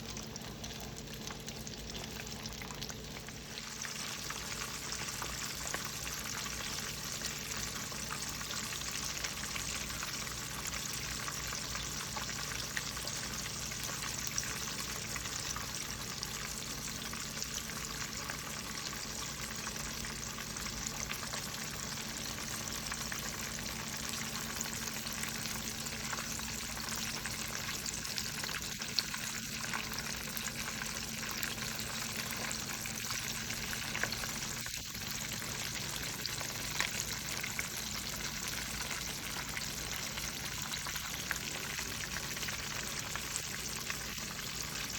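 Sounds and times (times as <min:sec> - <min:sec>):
fish frying in hot oil: 0:00.0 - 0:44.9.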